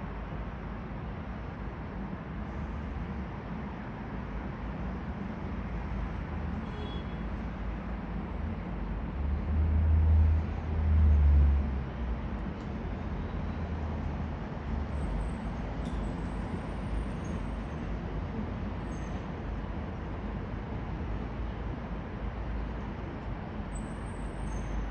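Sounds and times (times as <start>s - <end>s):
outdoor background rumble: 0.0s - 24.9s.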